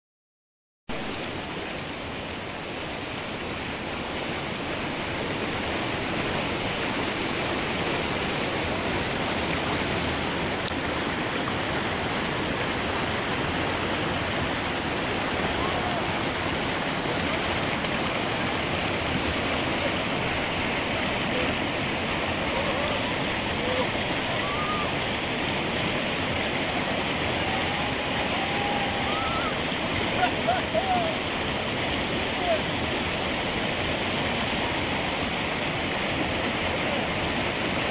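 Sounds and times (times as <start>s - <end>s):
river rapids rushing: 0.9s - 37.9s.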